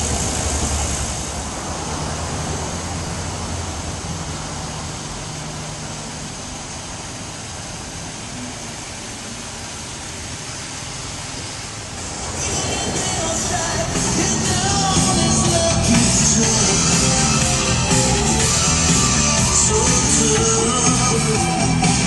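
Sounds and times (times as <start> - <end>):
car engine idling: 0.0 - 22.0
background hiss: 3.0 - 22.0.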